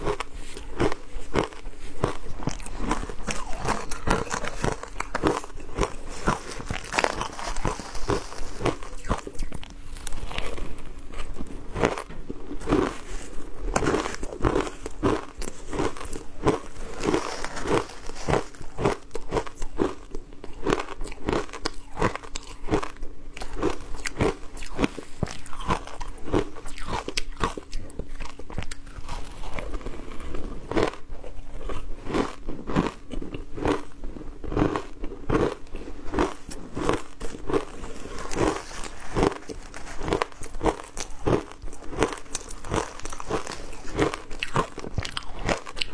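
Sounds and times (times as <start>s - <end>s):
chewing crushed ice crunches: 0.0s - 45.9s.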